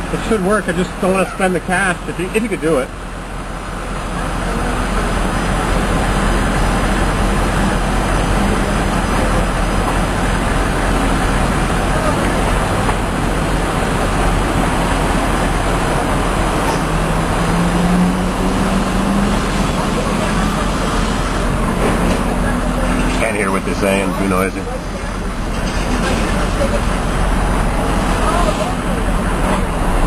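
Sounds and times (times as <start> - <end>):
low engine drone: 0.0 - 30.0
traffic noise: 0.0 - 30.0.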